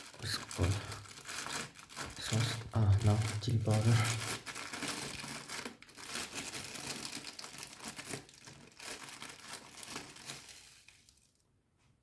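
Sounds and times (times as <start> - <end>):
plastic packet crinkling: 0.0 - 11.4.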